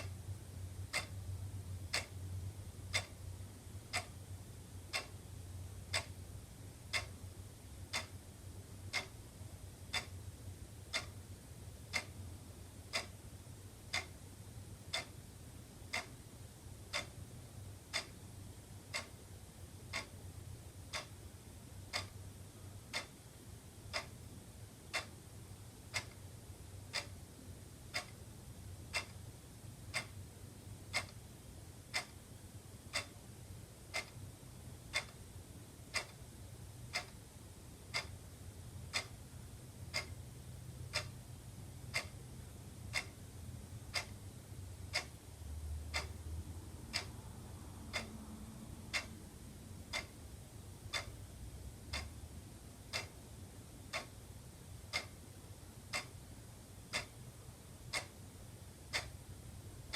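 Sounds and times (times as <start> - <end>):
faint low hum: 0.0 - 59.9
wall clock ticking: 0.0 - 59.9.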